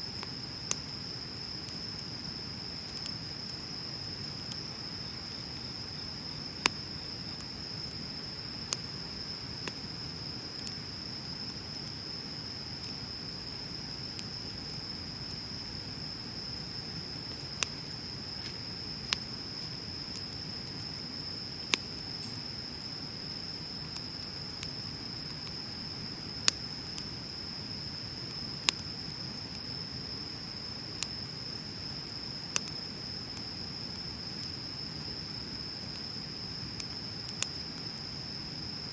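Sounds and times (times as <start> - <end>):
bonfire burning: 0.0 - 38.9
wood crackling and popping: 0.1 - 38.7.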